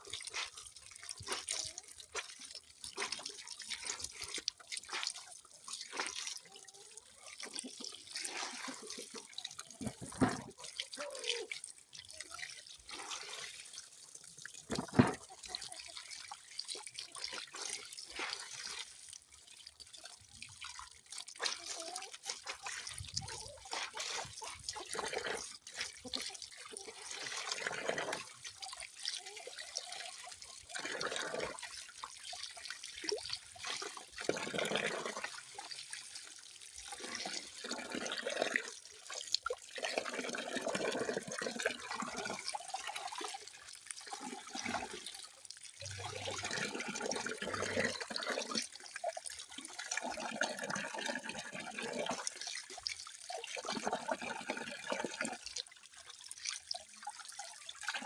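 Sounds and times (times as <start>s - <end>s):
water splashing from a tap: 0.0s - 58.0s.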